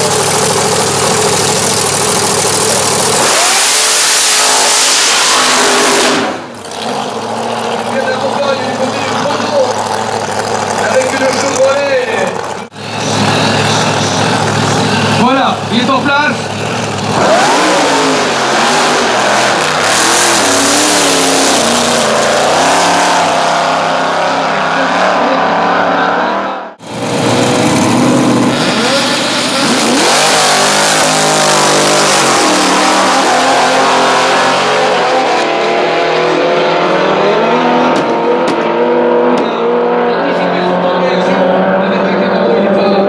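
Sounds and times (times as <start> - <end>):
drag racing engines revving: 0.0 - 43.0.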